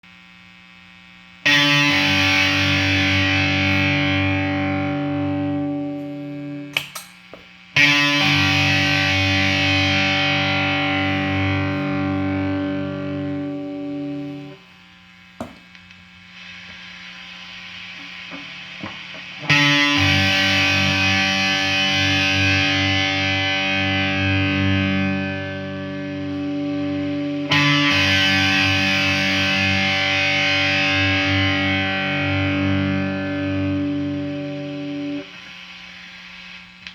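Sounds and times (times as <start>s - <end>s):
electric guitar chords ringing: 1.4s - 7.0s, 7.7s - 14.6s, 18.1s - 35.6s.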